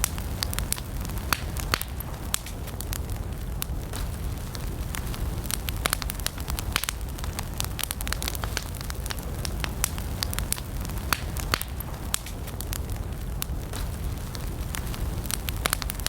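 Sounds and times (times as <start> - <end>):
campfire crackles and pops: 0.0 - 16.0
low rumble of flames: 0.0 - 16.0.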